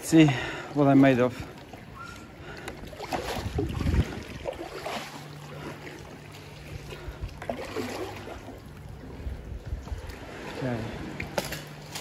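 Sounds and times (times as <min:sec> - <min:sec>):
paddle splashing water: 0:00.8 - 0:12.0.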